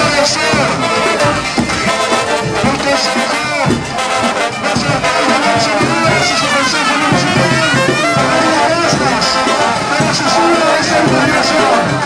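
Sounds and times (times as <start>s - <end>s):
brass band playing: 0.0s - 12.0s
sousaphone bass: 0.0s - 12.0s.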